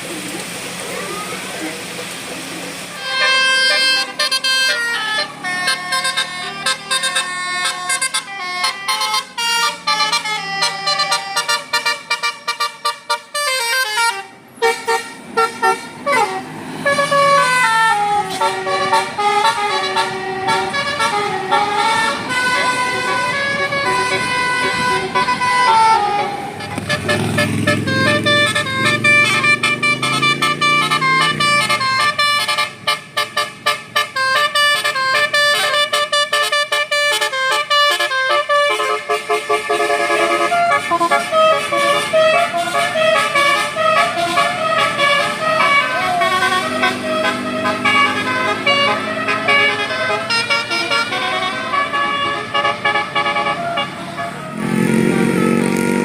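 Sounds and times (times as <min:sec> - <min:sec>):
bus musical horn: 0:02.9 - 0:56.0.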